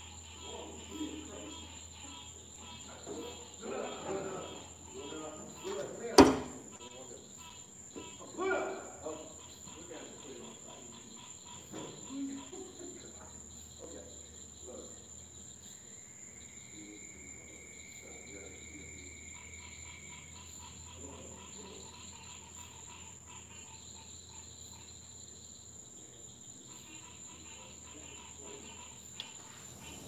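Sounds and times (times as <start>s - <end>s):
frogs: 0.0s - 30.0s
high-pitched insect drone: 0.0s - 30.0s.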